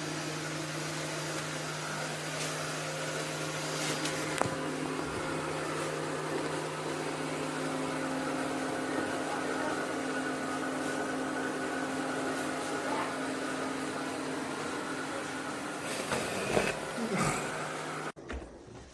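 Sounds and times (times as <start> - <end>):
robot vacuum motor hum: 0.0 - 18.5.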